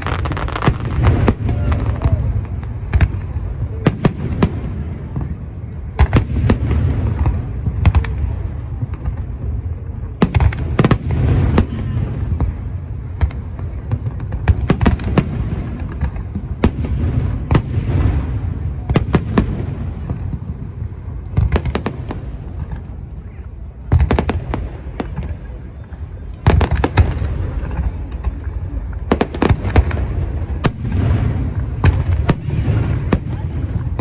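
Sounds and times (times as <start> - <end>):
fireworks bangs and booms: 0.0 - 34.0
low rumble of echoing reports: 0.0 - 34.0.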